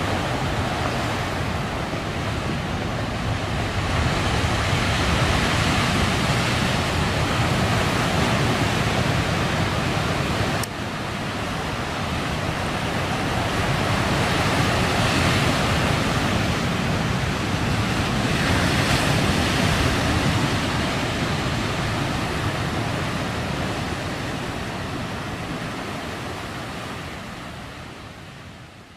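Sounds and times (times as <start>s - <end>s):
heavy surf breaking: 0.0s - 28.5s.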